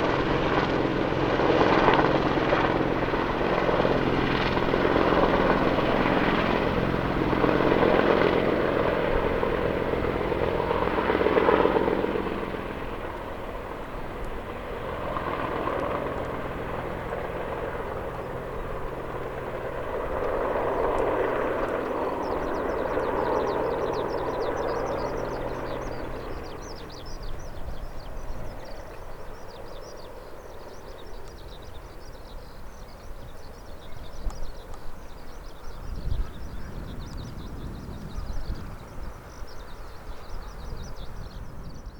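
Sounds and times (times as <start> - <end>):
helicopters flying away: 0.0 - 41.9.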